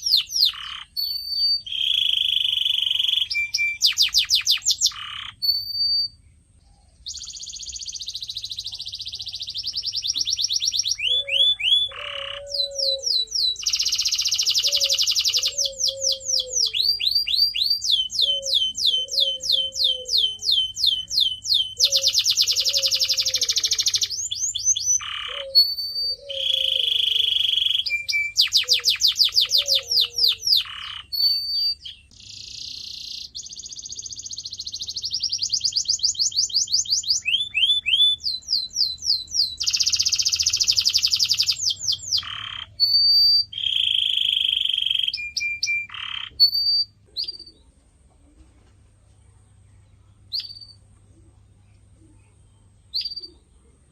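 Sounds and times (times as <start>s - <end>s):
canary singing trills: 0.0s - 47.8s, 49.5s - 53.9s.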